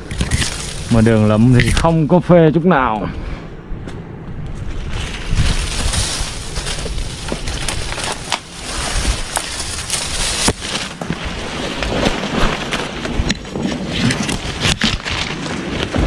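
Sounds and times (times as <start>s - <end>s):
leaves and twigs rustling: 0.0s - 2.1s, 4.3s - 16.0s
wind rumble: 0.0s - 16.0s.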